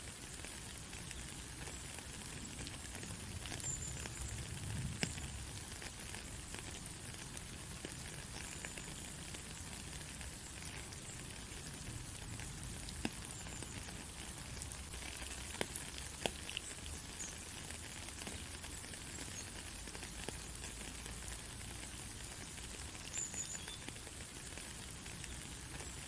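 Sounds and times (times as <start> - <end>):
steady rain hiss: 0.0 - 26.0
water drips: 0.1 - 26.0.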